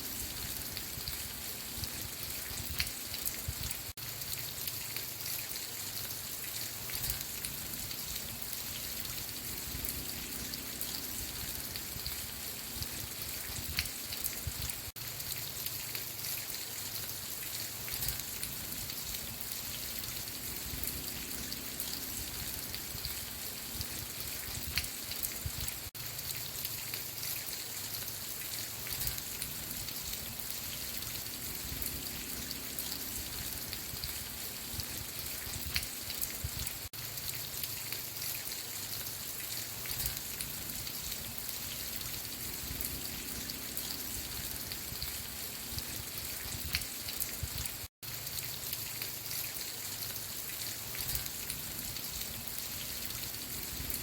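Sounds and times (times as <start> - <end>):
raindrops ticking on a surface: 0.0 - 54.0
steady rain falling: 0.0 - 54.0.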